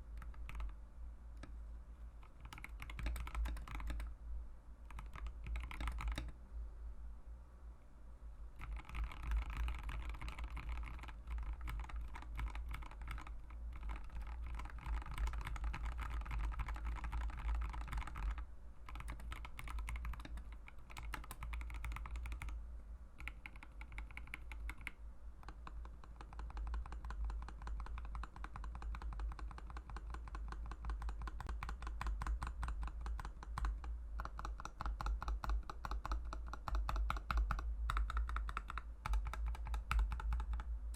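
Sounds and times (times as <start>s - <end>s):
mechanical keyboard typing: 0.0s - 0.8s, 2.2s - 4.1s, 4.9s - 6.4s, 8.6s - 22.6s, 23.2s - 40.7s.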